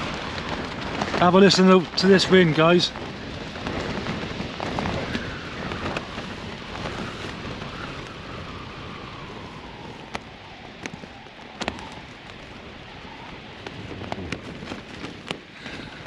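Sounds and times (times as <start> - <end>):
wind buffeting a tent: 0.0 - 16.0.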